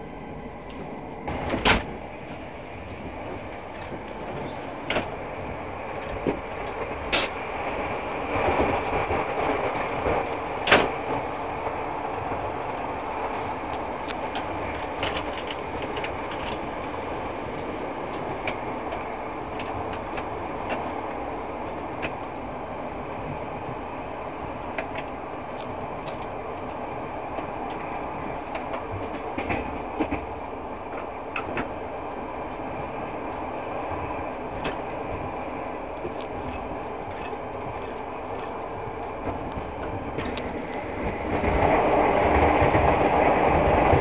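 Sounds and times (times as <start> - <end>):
train rumbling inside carriage: 0.0 - 44.0.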